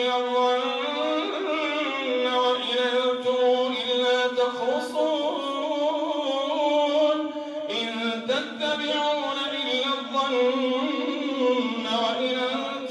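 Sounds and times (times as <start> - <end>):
man chanting recitation: 0.0 - 12.9.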